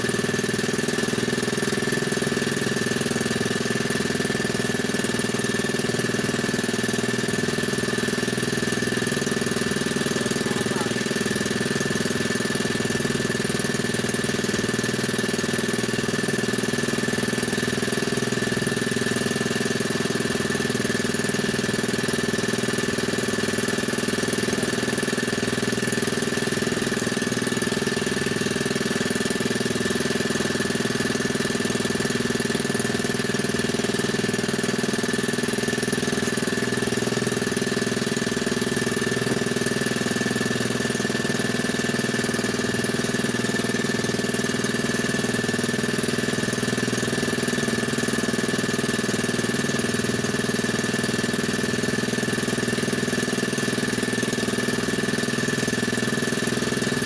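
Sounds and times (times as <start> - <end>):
small boat motor running: 0.0 - 57.0.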